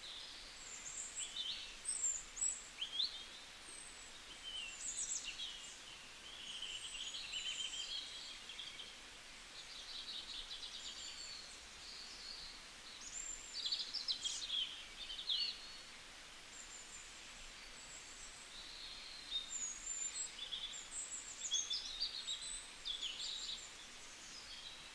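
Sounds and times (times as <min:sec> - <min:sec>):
small birds chirping and trilling: 0:00.0 - 0:15.9, 0:16.5 - 0:24.9
faint steady hiss: 0:00.0 - 0:24.9.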